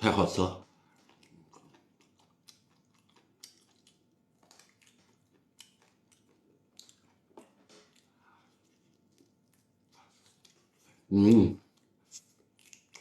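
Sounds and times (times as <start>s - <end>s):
person chewing food: 0.6s - 13.0s.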